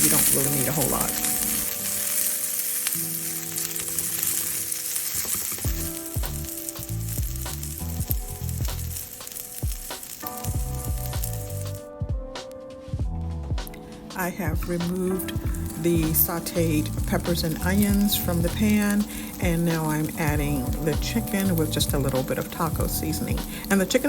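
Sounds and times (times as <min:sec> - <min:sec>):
vegetables sizzling in a pan: 0:00.0 - 0:11.8, 0:14.6 - 0:24.0.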